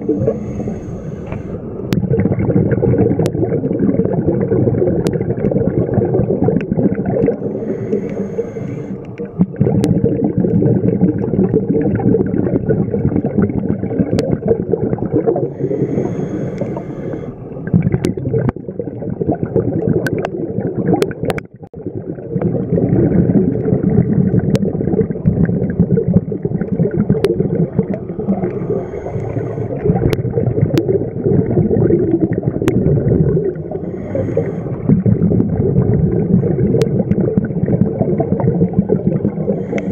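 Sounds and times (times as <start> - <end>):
exhaled bubbles underwater: 0.0 - 39.9.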